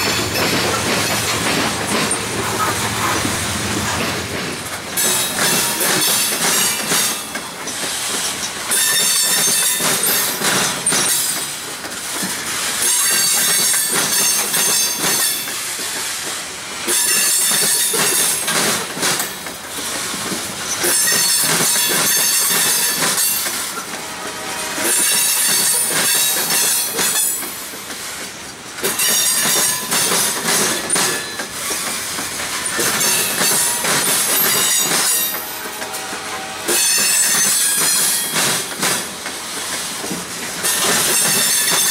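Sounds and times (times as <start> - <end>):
train wheels clattering over crossing: 0.0 - 41.9.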